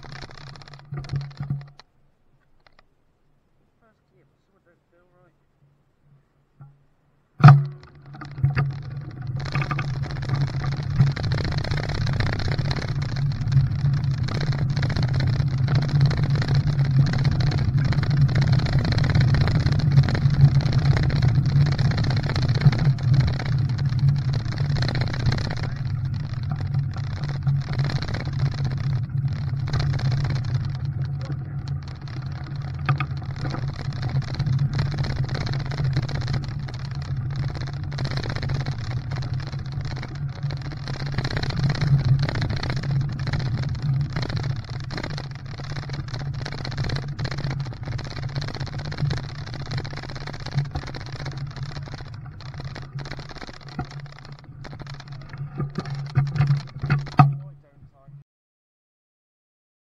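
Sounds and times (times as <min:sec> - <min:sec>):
car engine drone: 0:07.4 - 0:58.1.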